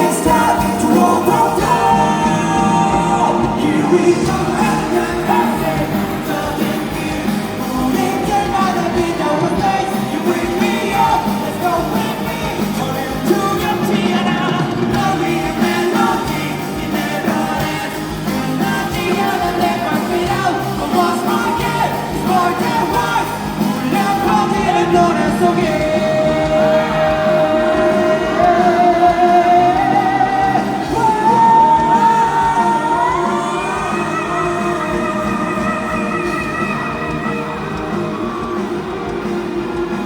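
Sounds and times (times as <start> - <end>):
pop-rock song with lead vocal: 0.0 - 40.0.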